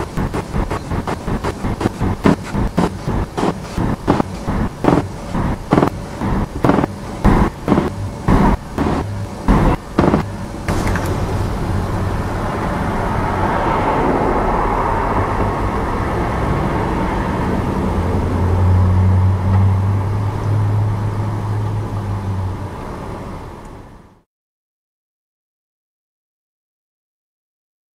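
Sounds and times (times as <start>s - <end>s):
road noise of cars: 0.0s - 24.2s.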